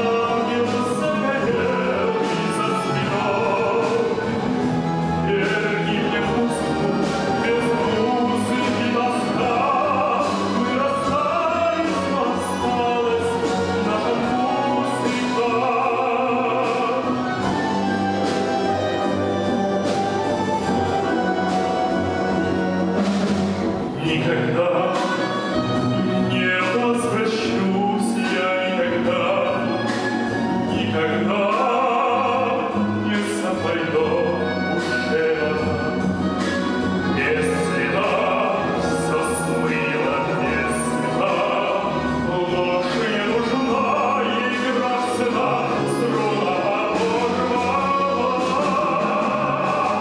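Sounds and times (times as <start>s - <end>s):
operatic singing: 0.0s - 50.0s
orchestra playing: 0.0s - 50.0s.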